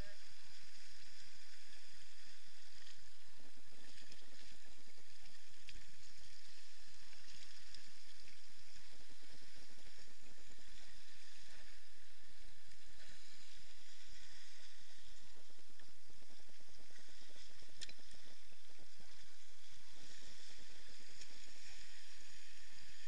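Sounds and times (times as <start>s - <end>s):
sea water washing around rocks: 0.0s - 23.0s.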